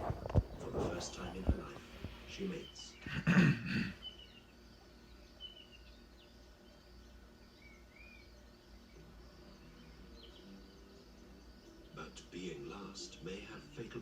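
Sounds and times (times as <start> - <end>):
bird chirps: 2.3 - 13.7.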